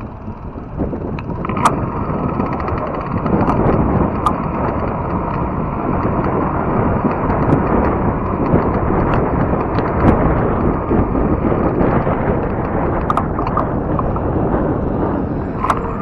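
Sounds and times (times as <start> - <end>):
bike tyre rumble on trail: 0.0 - 16.0
small clicks and rattles: 0.0 - 16.0
wind buffeting microphone: 0.0 - 16.0.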